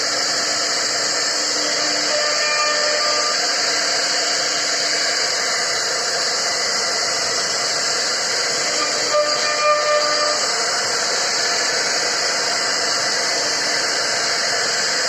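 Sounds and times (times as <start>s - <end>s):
router spindle cutting wood: 0.0s - 15.0s.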